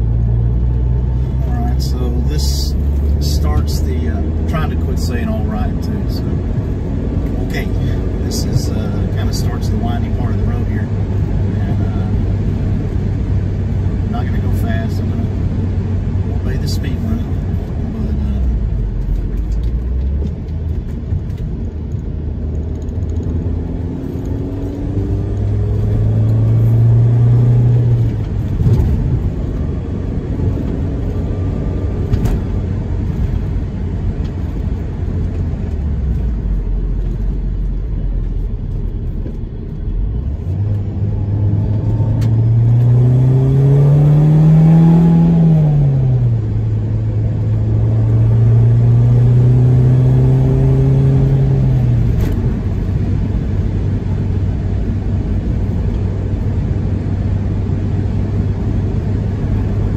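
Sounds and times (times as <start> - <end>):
car engine accelerating: 0.0 - 59.9
road rumble: 0.0 - 59.9.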